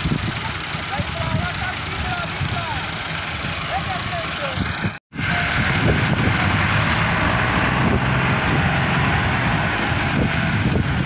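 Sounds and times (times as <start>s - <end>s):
tractor diesel engines under load: 0.0s - 11.0s.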